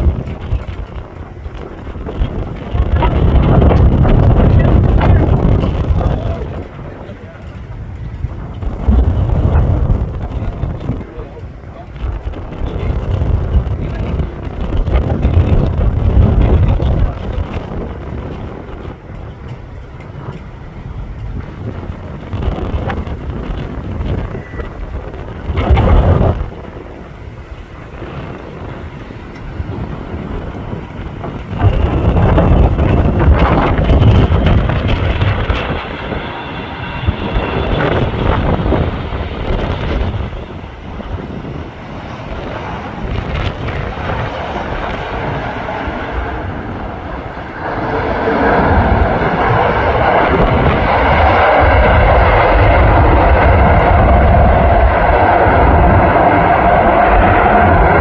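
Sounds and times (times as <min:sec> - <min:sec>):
jet engines of landing airliner: 0:00.0 - 0:58.0
wind buffeting microphone: 0:00.0 - 0:58.0.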